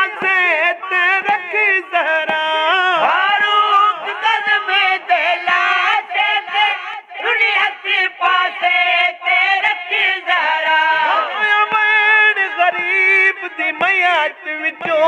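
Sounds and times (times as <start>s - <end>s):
man singing a lament: 0.0s - 15.0s.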